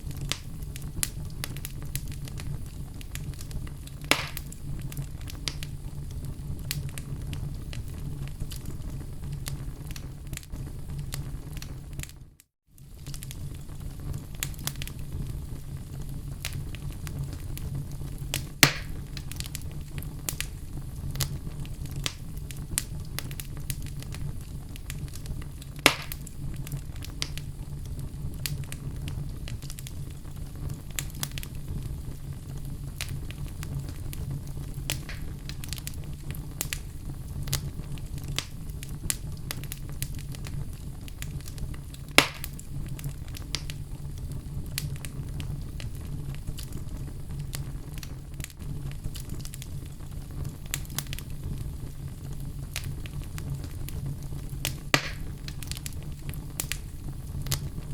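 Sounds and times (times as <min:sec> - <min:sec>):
loud fire pops: 0:00.0 - 0:57.9
wood fire crackling: 0:00.0 - 0:57.9.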